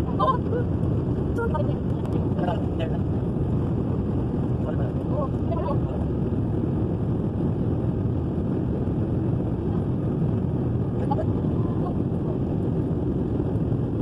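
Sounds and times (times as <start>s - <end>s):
airliner engines rumbling in cabin: 0.0s - 14.0s.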